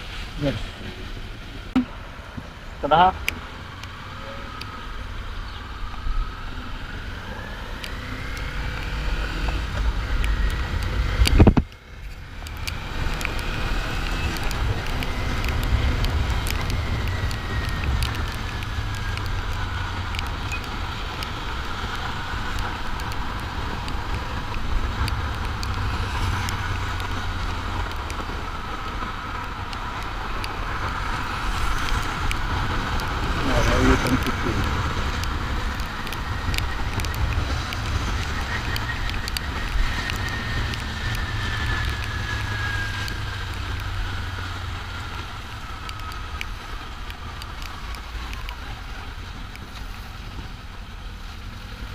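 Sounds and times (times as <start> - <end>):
wind noise: 0.0 - 51.1.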